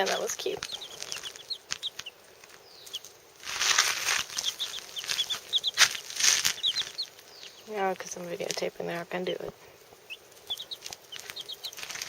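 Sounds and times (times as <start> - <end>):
chicks peeping: 0.0 - 12.0
rustling: 0.0 - 12.0.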